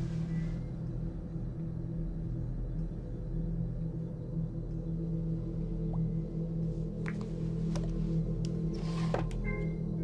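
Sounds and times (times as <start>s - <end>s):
low horror score drone: 0.0s - 10.0s.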